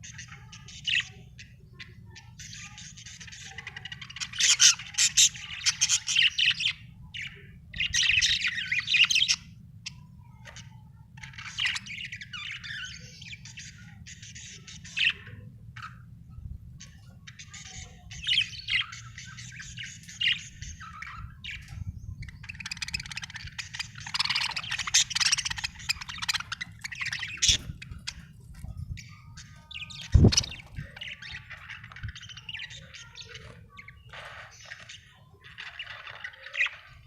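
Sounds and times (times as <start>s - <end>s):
budgerigar chirping and warbling: 0.0s - 16.1s, 16.8s - 37.0s.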